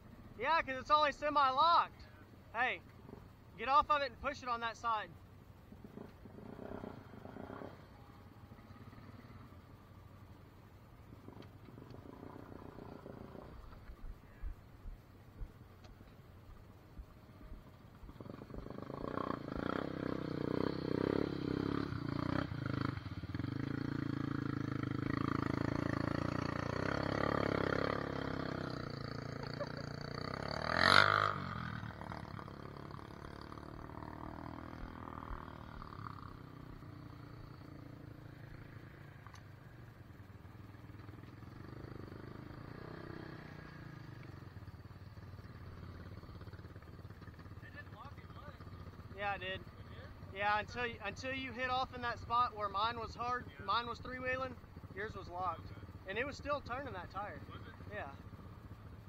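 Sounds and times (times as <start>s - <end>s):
off-road engines revving: 2.6s - 9.6s, 11.1s - 13.9s, 18.0s - 59.0s.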